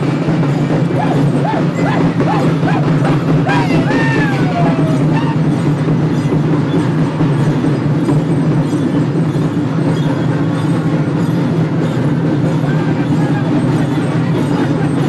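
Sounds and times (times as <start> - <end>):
many drums beating: 0.0 - 15.0.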